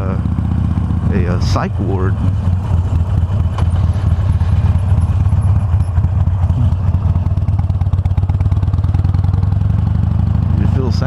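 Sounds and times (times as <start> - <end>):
motorcycle engine exhaust rumble: 0.0 - 11.0.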